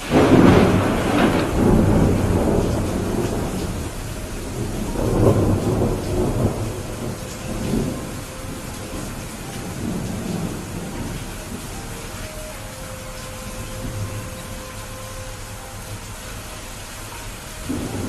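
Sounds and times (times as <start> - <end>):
heavy rain: 0.0 - 18.0
thunderclap rumbling: 0.0 - 18.0.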